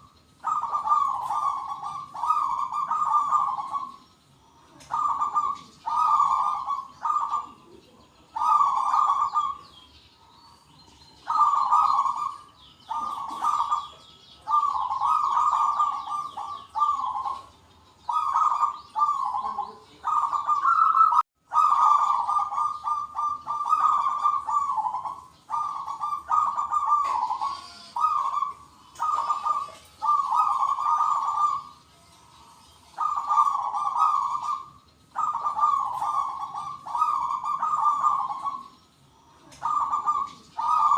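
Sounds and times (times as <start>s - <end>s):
doves cooing: 0.0s - 40.9s
small birds chirping: 0.0s - 40.9s.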